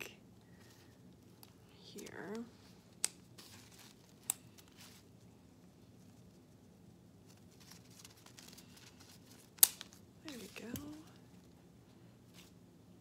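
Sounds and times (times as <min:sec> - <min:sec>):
artificial leaves rustling: 0:00.0 - 0:13.0.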